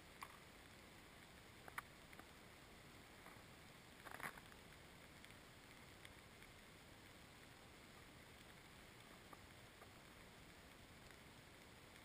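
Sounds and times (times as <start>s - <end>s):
faint outdoor hiss: 0.0s - 12.0s
faint ticks: 0.0s - 12.0s
soft rustle: 0.0s - 12.0s.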